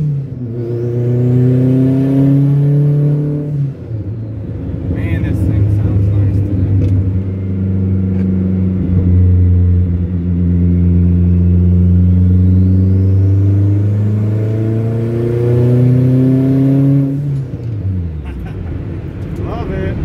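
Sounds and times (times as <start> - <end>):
car engine from inside cabin: 0.0 - 20.0.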